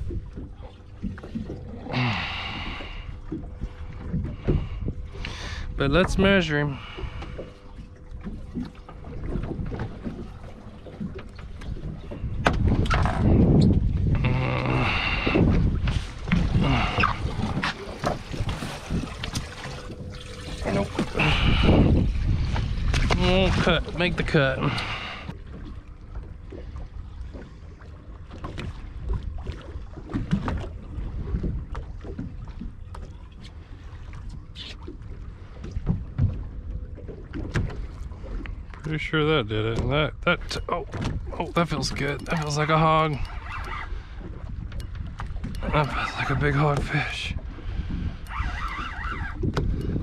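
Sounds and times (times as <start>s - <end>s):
wind buffeting microphone: 0.0s - 27.8s, 28.4s - 33.5s, 39.7s - 50.0s
low boat rumble: 0.0s - 50.0s.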